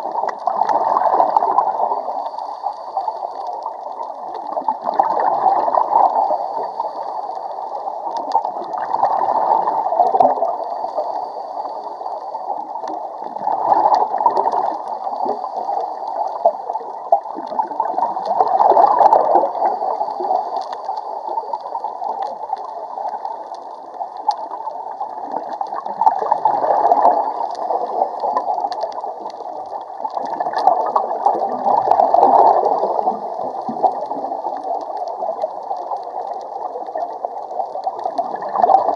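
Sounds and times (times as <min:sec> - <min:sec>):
underwater exhaust bubbles gurgling: 0:00.0 - 0:38.9.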